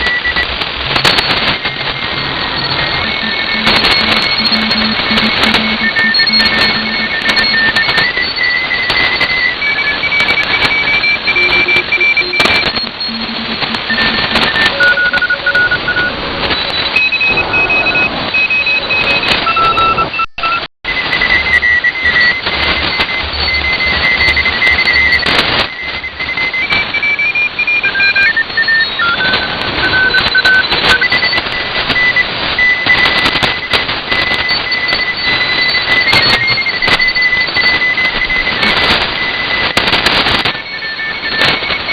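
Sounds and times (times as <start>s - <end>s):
morse code beeping: 0.0s - 41.9s
shortwave radio static: 0.0s - 41.9s.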